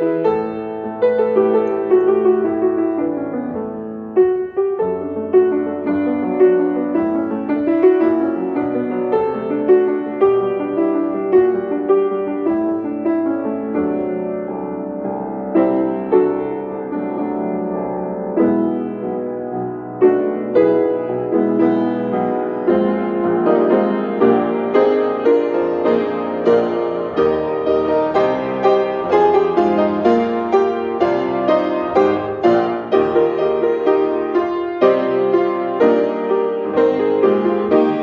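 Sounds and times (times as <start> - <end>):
slow gentle piano piece: 0.0 - 38.0.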